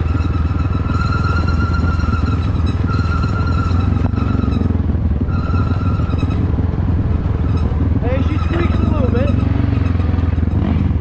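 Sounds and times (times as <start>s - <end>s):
high engine whine: 0.0s - 11.0s
quad bike engine rumble: 0.0s - 11.0s.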